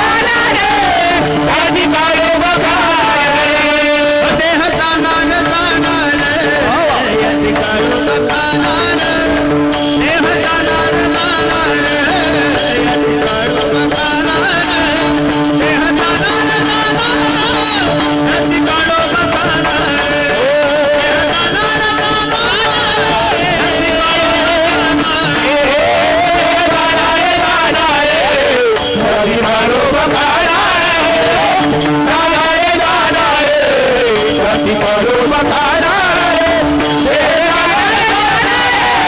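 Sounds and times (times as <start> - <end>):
man singing into a microphone: 0.0 - 39.0
rhythmic percussion clicks: 0.0 - 39.0.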